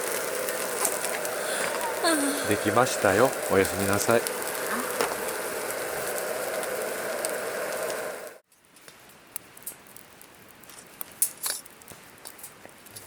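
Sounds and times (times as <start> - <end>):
crackling hiss: 0.0 - 13.0.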